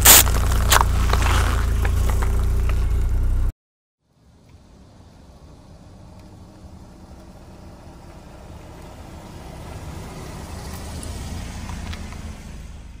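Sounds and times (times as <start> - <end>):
car engine rumble: 0.0 - 3.5, 4.1 - 13.0.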